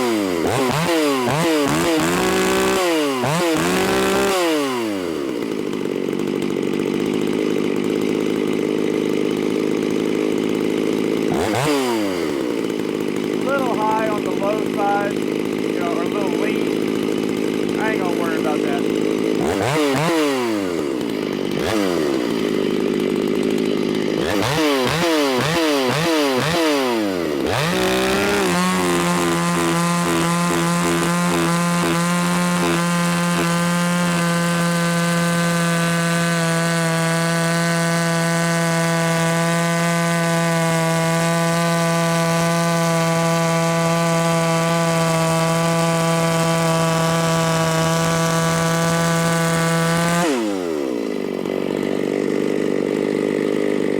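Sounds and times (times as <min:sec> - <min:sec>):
chainsaw cutting wood: 0:00.0 - 0:53.9
chainsaw revving: 0:00.0 - 0:53.9.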